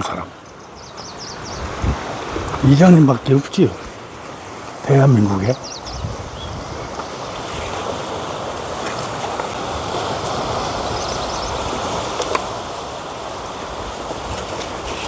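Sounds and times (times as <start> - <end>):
sea water washing on shore: 0.0 - 15.0.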